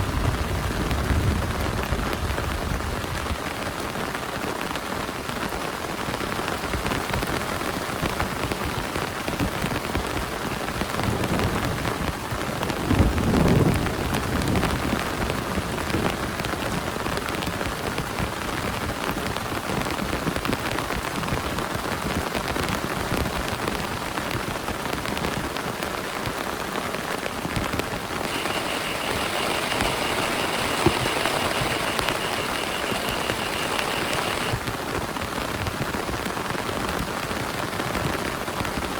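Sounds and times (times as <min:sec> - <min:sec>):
heavy rain on plastic tarp: 0:00.0 - 0:38.9.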